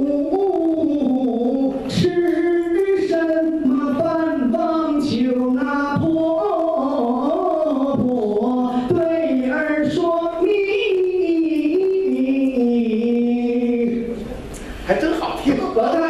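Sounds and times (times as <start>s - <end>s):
man singing into a microphone: 0.0s - 14.2s.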